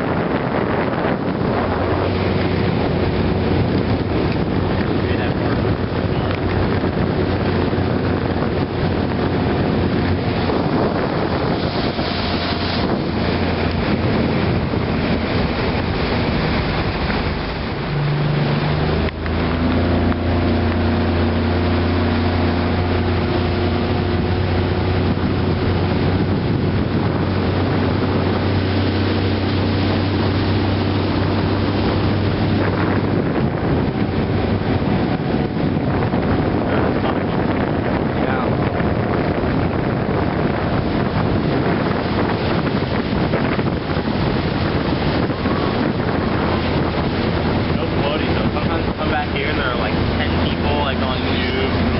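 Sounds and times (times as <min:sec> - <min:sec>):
motorboat engine running: 0:00.0 - 0:51.9
wind on microphone: 0:00.0 - 0:51.9.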